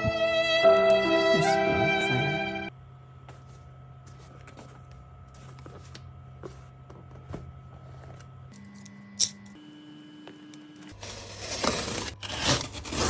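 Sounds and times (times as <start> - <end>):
low electrical hum: 2.2 - 13.0.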